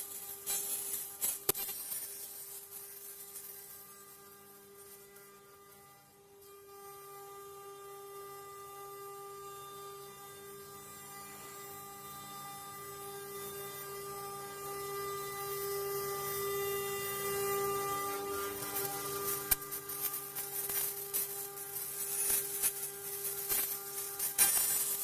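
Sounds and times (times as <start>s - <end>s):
router spindle whining: 3.8s - 25.0s.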